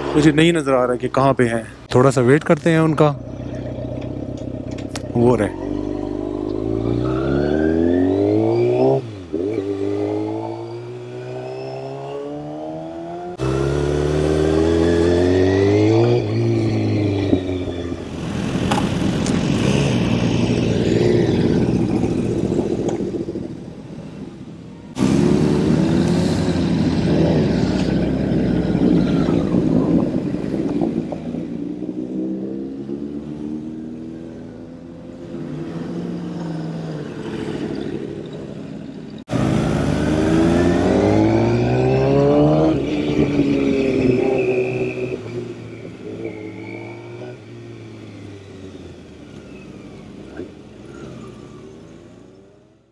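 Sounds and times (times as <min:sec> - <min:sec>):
motorcycle engine revving: 0:02.9 - 0:24.2, 0:24.9 - 0:38.6, 0:39.3 - 0:51.8.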